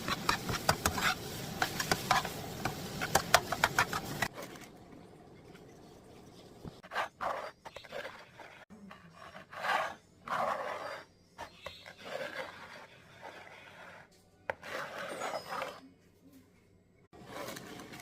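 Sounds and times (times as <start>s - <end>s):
scraping and rubbing strokes: 0.0s - 4.6s, 5.5s - 15.9s.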